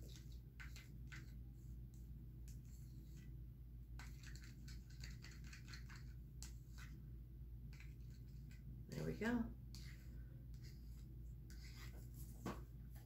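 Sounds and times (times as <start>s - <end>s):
stir stick scraping plastic cup: 0.0s - 7.0s, 7.6s - 12.1s
low steady hum: 0.0s - 13.0s.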